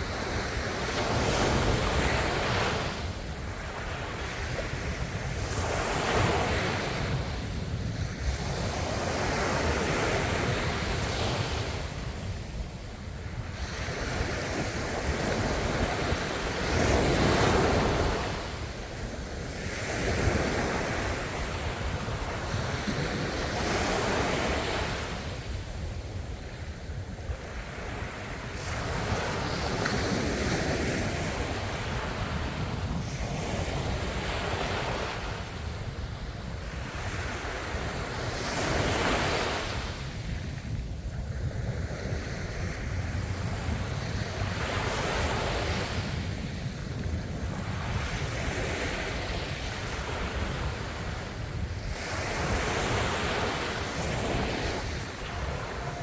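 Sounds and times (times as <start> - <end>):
ocean waves breaking on shore: 0.0 - 56.0
wind rumble on microphone: 0.0 - 56.0.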